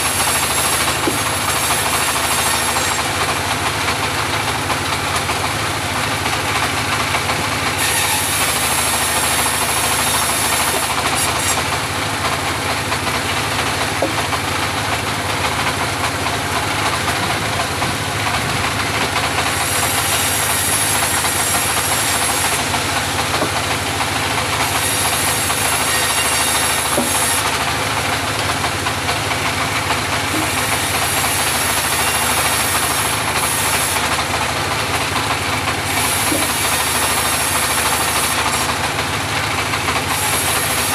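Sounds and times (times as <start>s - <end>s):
bandsaw mill engine running: 0.0s - 40.9s.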